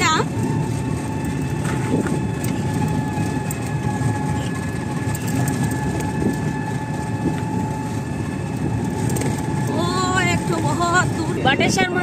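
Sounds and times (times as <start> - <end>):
vehicle ride rumble and rattle: 0.0 - 12.0.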